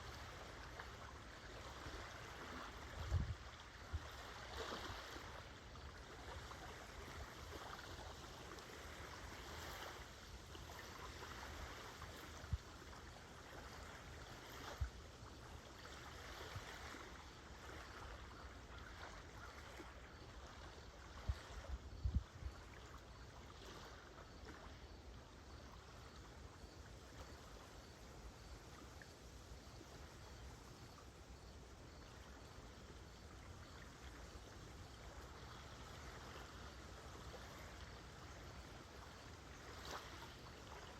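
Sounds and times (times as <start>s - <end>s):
crickets chirping: 0.0s - 40.9s
small waves lapping: 0.0s - 40.9s.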